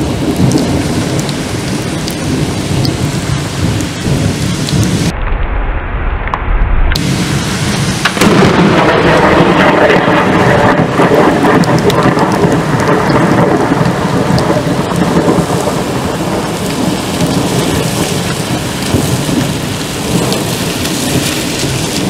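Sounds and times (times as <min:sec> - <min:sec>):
rain on wet pavement: 0:00.0 - 0:05.2, 0:06.2 - 0:22.0
rolling thunder: 0:00.0 - 0:22.0.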